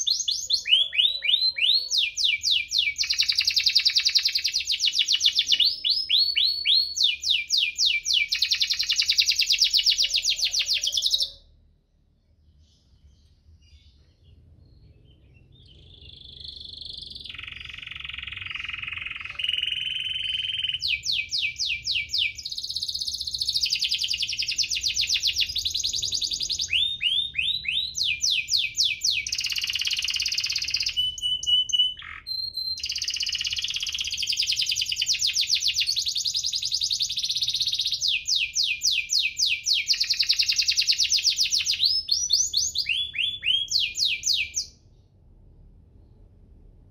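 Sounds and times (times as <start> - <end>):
canary singing trills: 0.0 - 11.6, 12.3 - 44.8.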